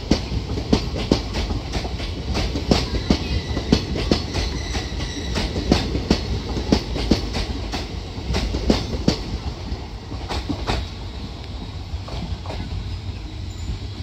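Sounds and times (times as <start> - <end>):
train wheels clacking over rail joints: 0.0 - 13.7
train rumble: 0.0 - 14.0.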